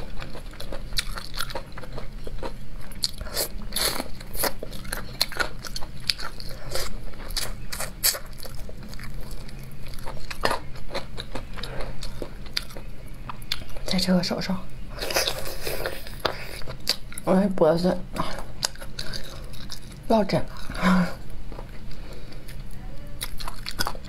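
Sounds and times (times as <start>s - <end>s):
person chewing crunchy food: 0.0s - 14.0s, 14.9s - 17.4s, 18.1s - 24.0s.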